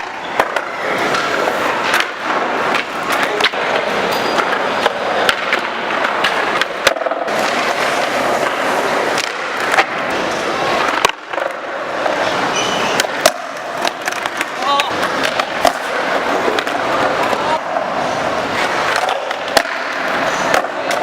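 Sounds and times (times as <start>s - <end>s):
skateboard clacks: 0.0s - 21.0s
skateboard wheels rolling on pavement: 0.0s - 21.0s.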